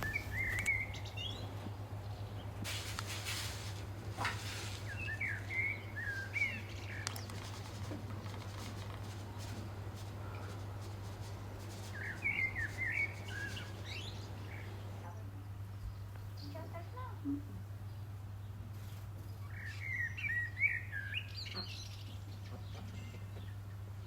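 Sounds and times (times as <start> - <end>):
steady low hum: 0.0 - 19.6
small birds twittering: 0.0 - 24.0.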